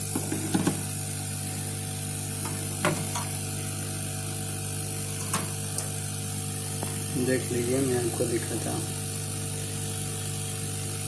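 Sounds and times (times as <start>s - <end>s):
hot-air blower humming and hissing: 0.0s - 11.0s.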